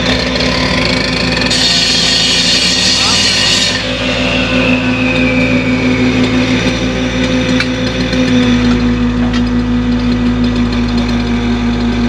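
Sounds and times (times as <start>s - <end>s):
excavator diesel engine: 0.0s - 12.0s.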